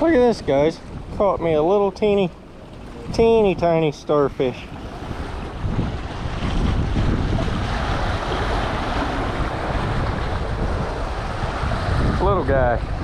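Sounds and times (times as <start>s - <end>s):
ocean surf washing over rocks: 0.0s - 13.0s
wind rumbling on microphone: 0.0s - 13.0s.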